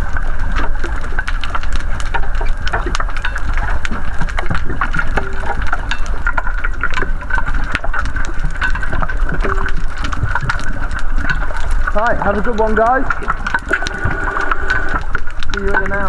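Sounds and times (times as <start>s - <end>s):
crackling clicks: 0.0s - 16.0s
low underwater rumble: 0.0s - 16.0s.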